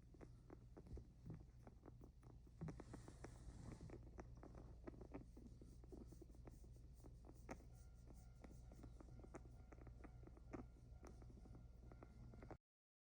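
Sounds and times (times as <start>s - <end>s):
guinea pig clicking: 0.0s - 12.6s.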